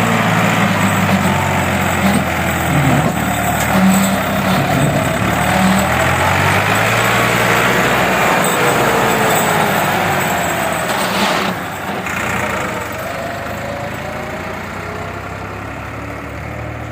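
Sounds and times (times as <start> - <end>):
tractor engine running hard: 0.0 - 16.9.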